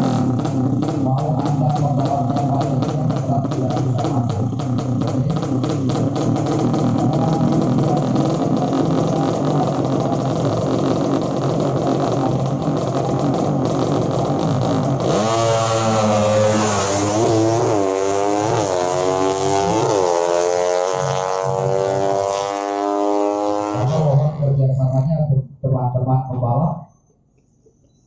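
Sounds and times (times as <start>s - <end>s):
motorcycles accelerating hard: 0.0s - 24.8s.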